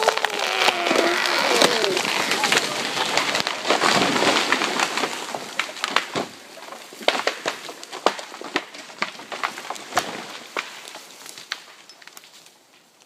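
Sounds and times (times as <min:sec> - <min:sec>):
tree crashing down: 0:00.0 - 0:12.4
branches and debris falling: 0:00.0 - 0:13.0.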